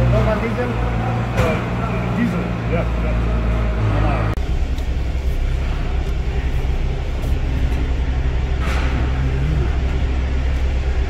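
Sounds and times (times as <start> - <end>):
diesel engine low drone: 0.0 - 11.0.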